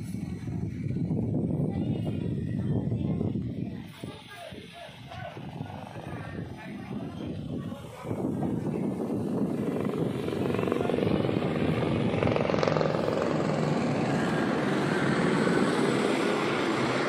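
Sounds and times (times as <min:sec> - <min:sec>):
helicopter rotor chopping: 0:03.3 - 0:17.0.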